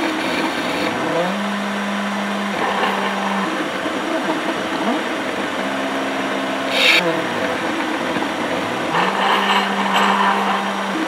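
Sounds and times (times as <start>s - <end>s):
milling machine cutting metal: 0.0s - 11.0s
motor tones sliding in pitch: 0.0s - 11.0s.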